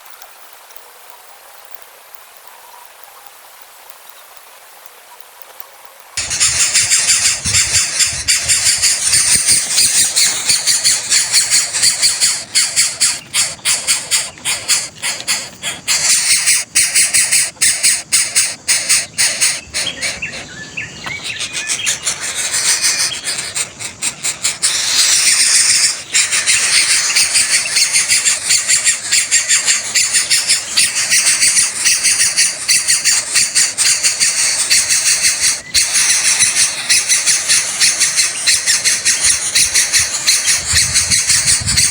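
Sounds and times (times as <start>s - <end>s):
nestlings begging calls: 6.2s - 41.9s.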